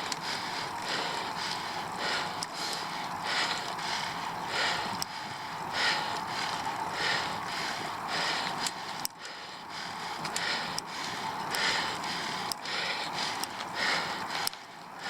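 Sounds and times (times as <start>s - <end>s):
bicycle clicks: 0.0s - 15.0s
bicycle swishing pulse: 0.0s - 15.0s.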